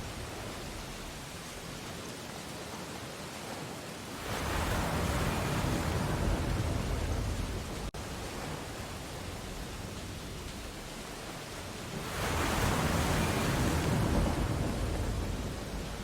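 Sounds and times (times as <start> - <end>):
hiss of surf: 0.0 - 16.0
ocean waves washing on beach: 0.0 - 16.0.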